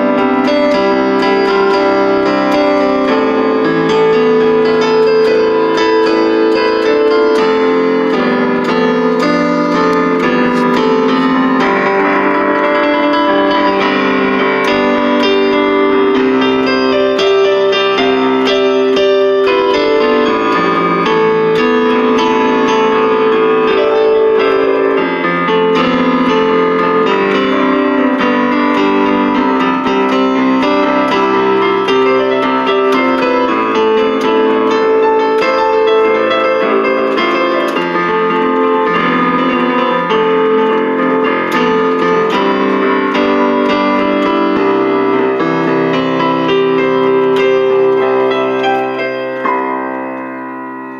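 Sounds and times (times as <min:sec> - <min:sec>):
electronic keyboard piano chords: 0:00.0 - 0:50.9.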